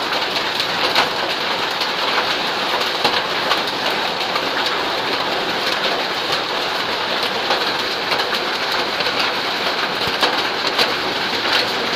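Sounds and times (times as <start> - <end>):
heavy rain and hail on mud: 0.0 - 11.9.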